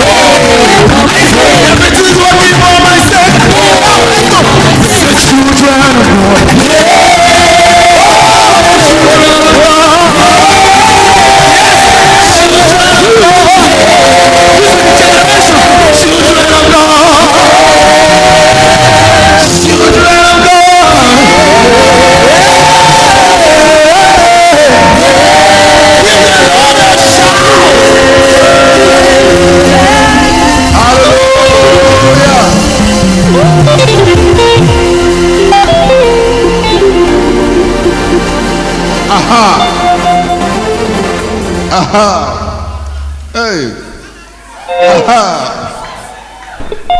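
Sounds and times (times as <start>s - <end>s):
bass line: 0.0s - 46.0s
church worship music: 0.0s - 46.9s
congregation: 0.0s - 46.9s
voices singing: 0.0s - 46.9s.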